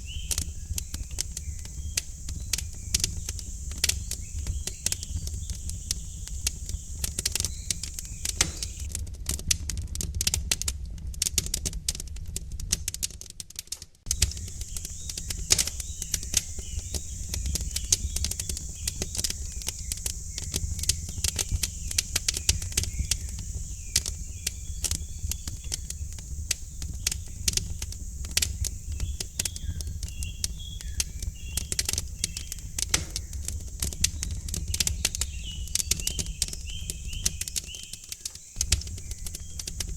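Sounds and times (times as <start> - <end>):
faint bird chirps: 0.0 - 8.9, 14.1 - 39.9
wood fire crackling and popping: 0.0 - 11.8, 12.7 - 39.9.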